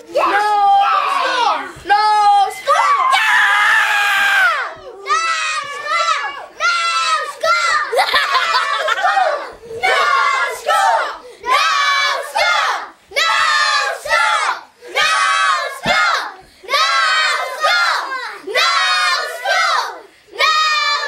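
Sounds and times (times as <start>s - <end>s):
children chanting and shouting: 0.0s - 21.0s.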